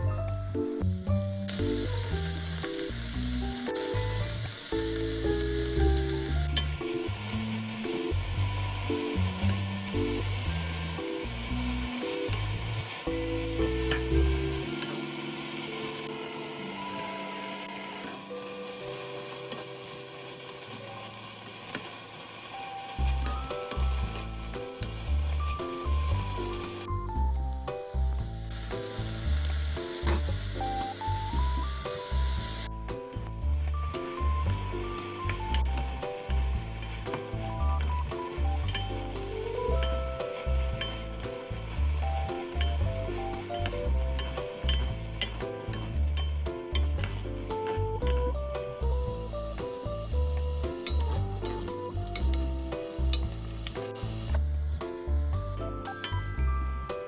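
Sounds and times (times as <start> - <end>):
light melodic background tune: 0.0 - 21.4, 22.6 - 57.0
cabbage sizzling in a pan: 0.4 - 57.0.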